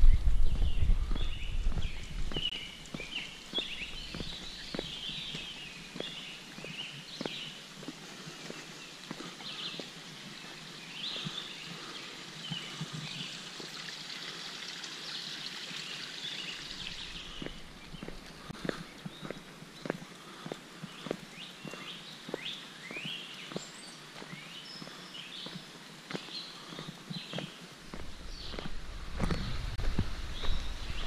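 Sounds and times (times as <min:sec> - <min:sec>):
footsteps on paved trail: 0:00.0 - 0:13.3, 0:16.2 - 0:31.0
birds singing and chirping: 0:00.0 - 0:14.4, 0:15.0 - 0:31.0.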